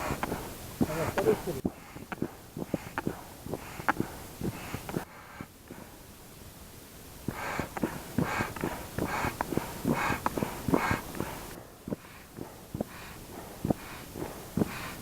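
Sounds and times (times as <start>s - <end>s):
air pump puffing: 0.0s - 6.3s, 7.1s - 15.0s.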